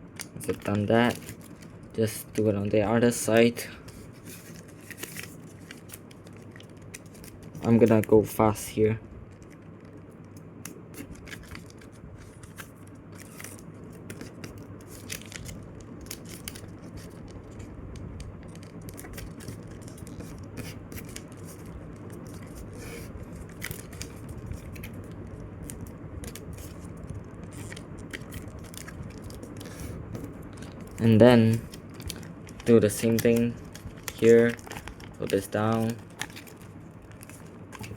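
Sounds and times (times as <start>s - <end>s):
paper folding and crinkling: 0.4s - 8.7s, 9.3s - 37.9s.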